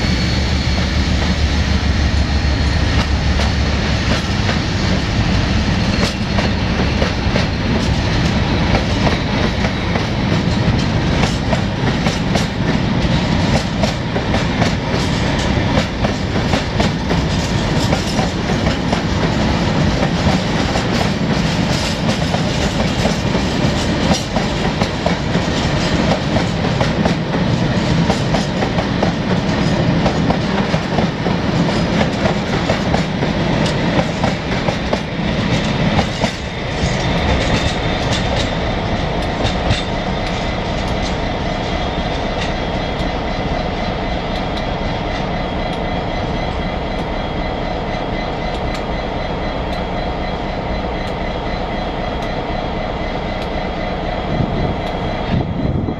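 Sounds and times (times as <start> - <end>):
diesel locomotive engine running: 0.0 - 55.9.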